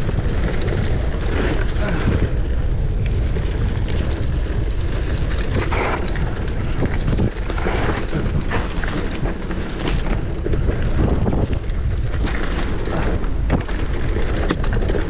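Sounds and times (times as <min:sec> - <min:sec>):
bike rattling over bumps: 0:00.0 - 0:15.0
bike tyres rumbling on dirt trail: 0:00.0 - 0:15.0
wind buffeting microphone: 0:00.0 - 0:15.0.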